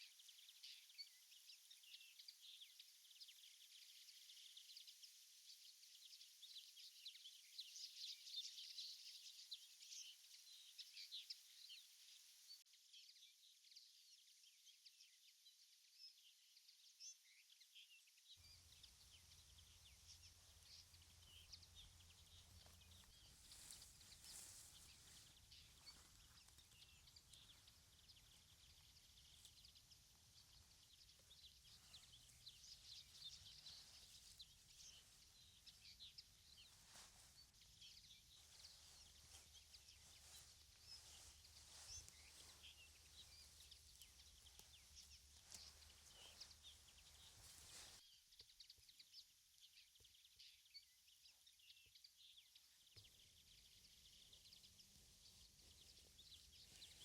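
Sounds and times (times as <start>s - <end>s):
faint birdsong chirps: 0.0s - 57.0s.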